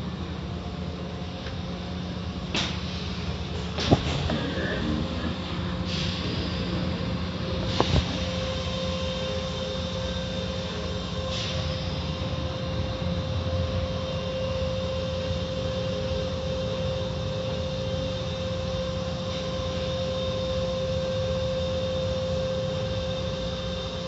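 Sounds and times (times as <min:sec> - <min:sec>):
constant pitched hum: 0:00.0 - 0:24.0.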